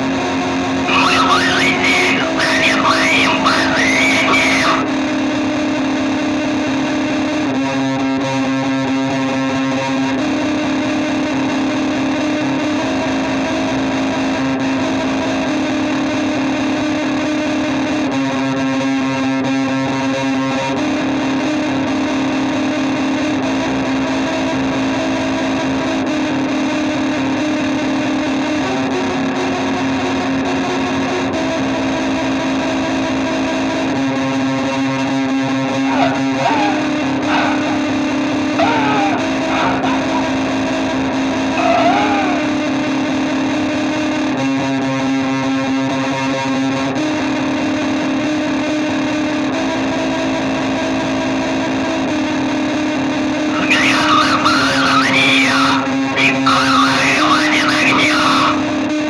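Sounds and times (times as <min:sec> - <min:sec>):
distorted electric guitar chords: 0:00.0 - 0:59.0.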